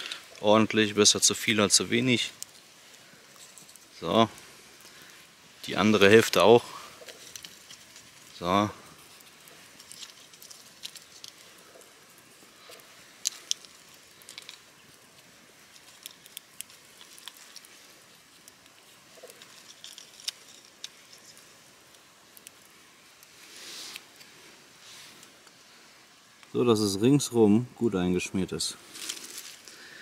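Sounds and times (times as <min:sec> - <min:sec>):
soft rustle: 0:00.0 - 0:26.6, 0:28.5 - 0:30.0
campfire crackling: 0:00.0 - 0:30.0.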